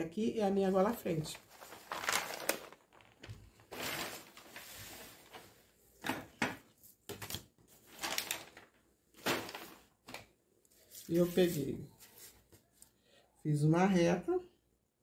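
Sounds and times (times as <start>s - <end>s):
paper rustling and crinkling: 0.8s - 12.8s.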